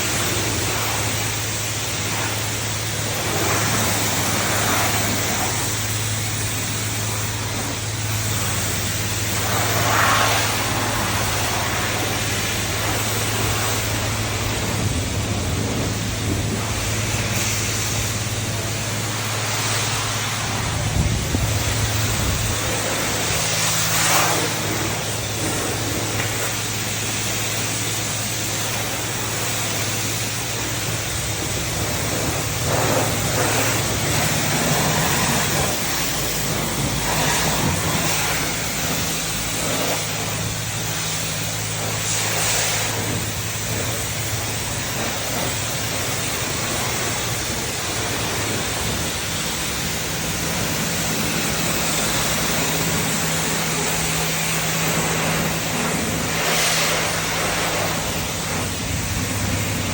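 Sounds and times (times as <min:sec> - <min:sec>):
high-pressure wand spraying: 0:00.0 - 0:59.9
wash pump hum: 0:00.0 - 0:59.9.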